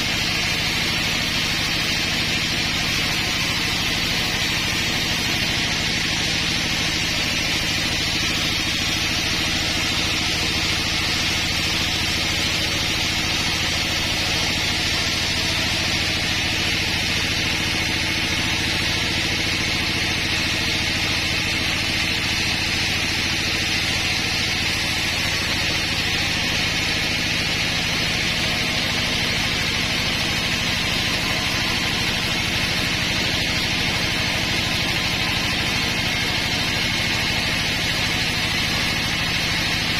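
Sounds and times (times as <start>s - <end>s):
saw cutting log with high hiss: 0.0s - 39.9s
sawmill engine running: 0.0s - 39.9s.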